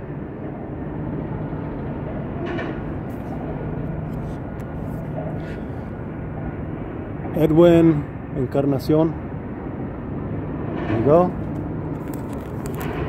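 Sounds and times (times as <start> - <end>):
low engine hum: 0.0 - 13.0
low rumble of traffic: 0.0 - 13.0.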